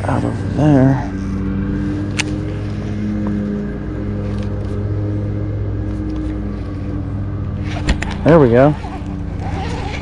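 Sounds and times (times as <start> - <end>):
small motor droning: 0.0 - 10.0.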